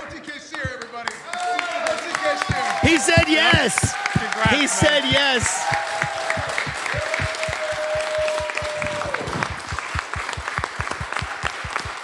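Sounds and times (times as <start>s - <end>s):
people clapping: 0.0s - 12.0s
people cheering: 1.0s - 12.0s.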